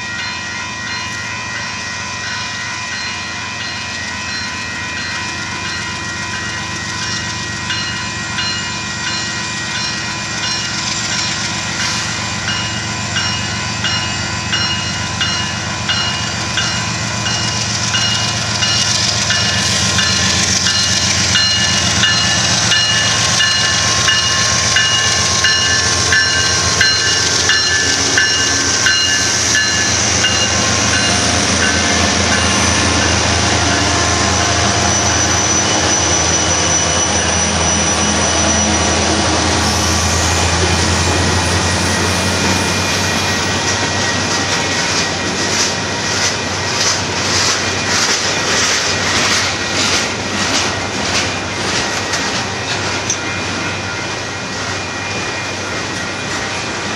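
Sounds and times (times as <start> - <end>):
locomotive engines rumbling: 0.0 - 56.9
railroad crossing bell ringing: 0.0 - 56.9.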